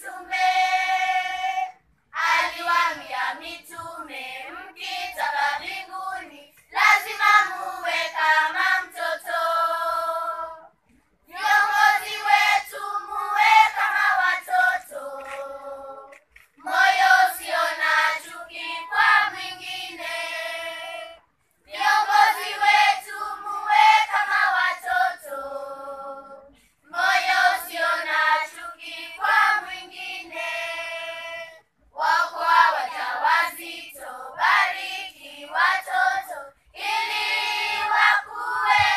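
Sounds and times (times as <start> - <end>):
children's choir singing: 0.0 - 10.7, 11.3 - 38.9.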